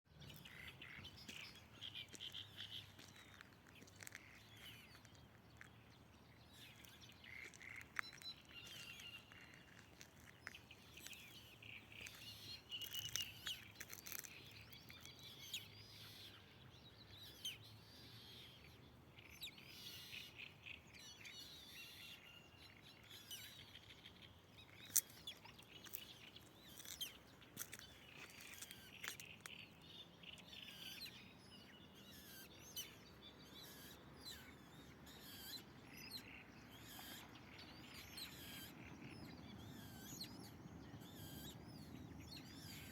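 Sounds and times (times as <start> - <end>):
small birds chirping: 0.1 - 42.9.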